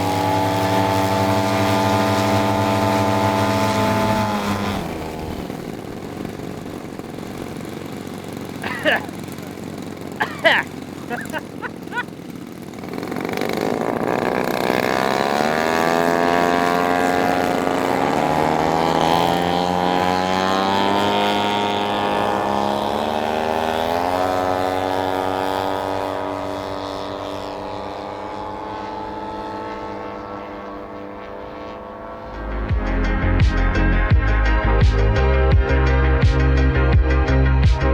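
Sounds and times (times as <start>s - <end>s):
model aircraft engines droning: 0.0s - 33.8s.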